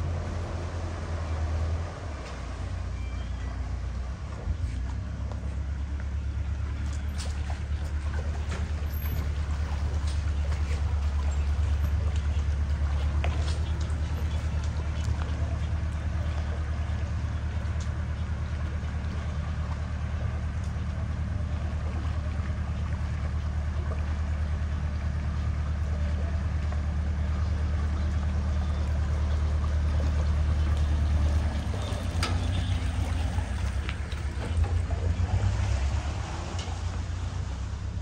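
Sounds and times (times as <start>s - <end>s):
engine rumbling: 0.0s - 38.0s.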